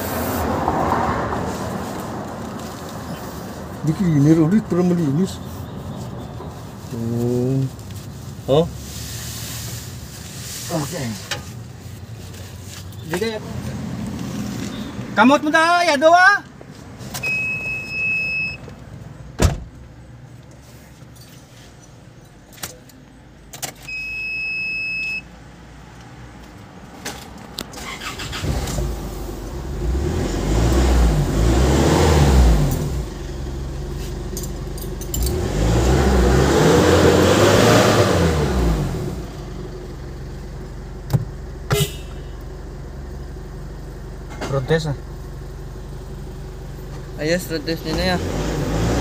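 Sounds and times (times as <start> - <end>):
diesel engine idling and revving: 0.0 - 16.2, 22.8 - 49.0.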